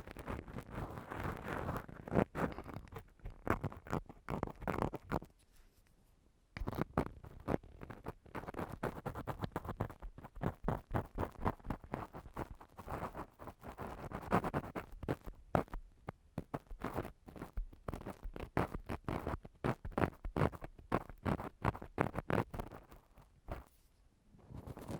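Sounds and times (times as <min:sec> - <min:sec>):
tool scratching on microphone: 0:00.0 - 0:05.3, 0:06.6 - 0:15.8, 0:16.4 - 0:23.8, 0:24.5 - 0:24.9.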